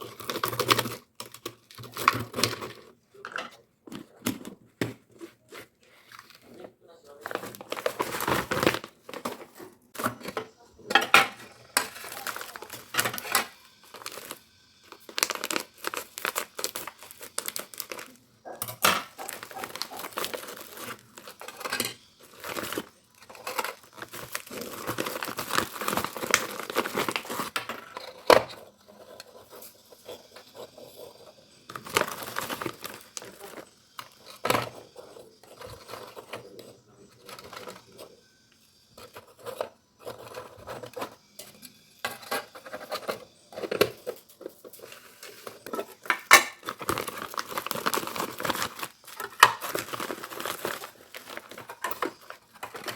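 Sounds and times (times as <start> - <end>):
plastic packaging crinkling: 0.0 - 3.3, 5.2 - 38.1, 42.0 - 52.9.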